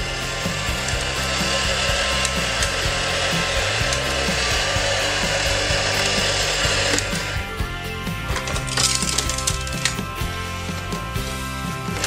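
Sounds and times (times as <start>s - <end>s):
toy gears grinding: 0.0s - 12.0s.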